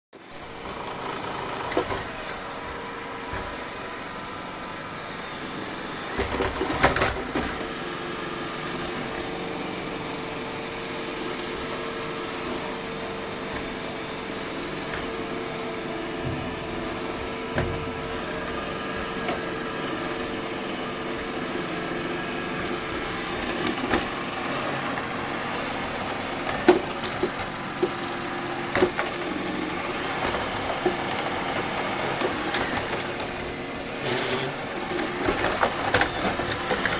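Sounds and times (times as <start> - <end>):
robot vacuum motor whirring: 0.3 - 36.9.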